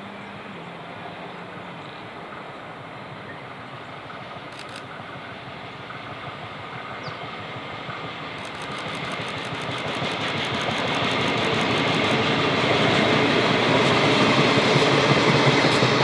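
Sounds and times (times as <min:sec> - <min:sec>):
passenger train passing: 0:00.0 - 0:16.0.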